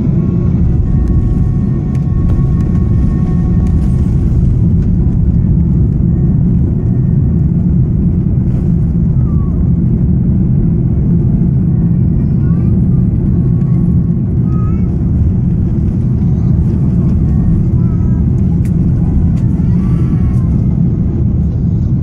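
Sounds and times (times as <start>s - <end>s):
airplane cabin low rumble: 0.0s - 22.0s.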